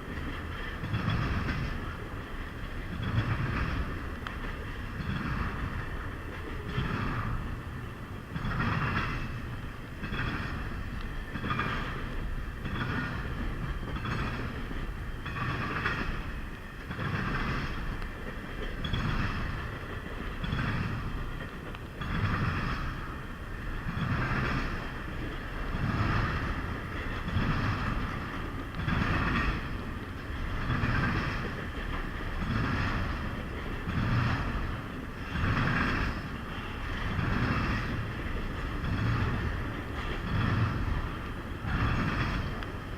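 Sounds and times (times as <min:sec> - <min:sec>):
train wheels clacking on rails: 0:00.0 - 0:42.9.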